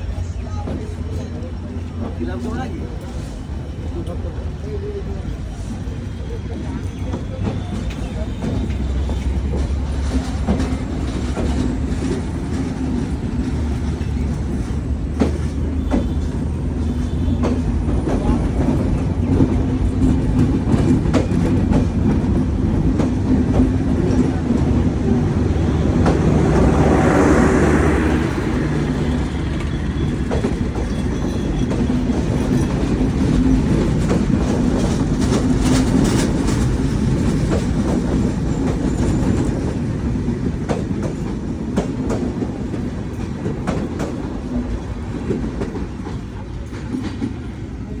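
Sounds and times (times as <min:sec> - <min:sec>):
train wheels rumbling: 0:00.0 - 0:48.0
wheels clacking over rail joints: 0:00.0 - 0:48.0.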